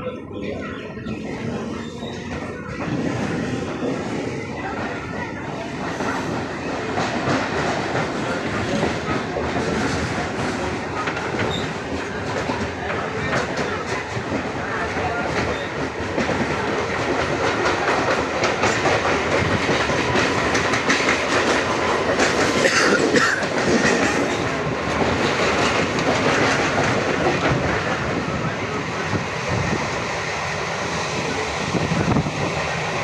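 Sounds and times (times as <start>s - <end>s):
train carriages rumbling: 0.0s - 33.0s.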